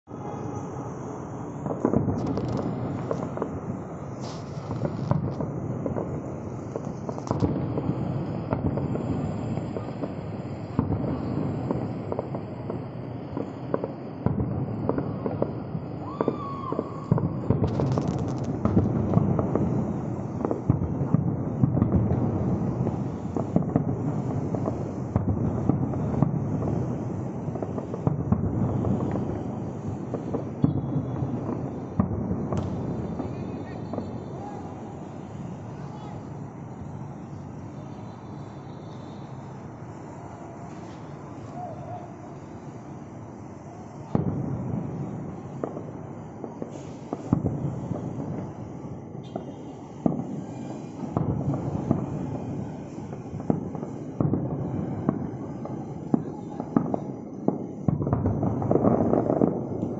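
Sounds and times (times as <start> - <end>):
distant fireworks booming: 0.1 - 59.9.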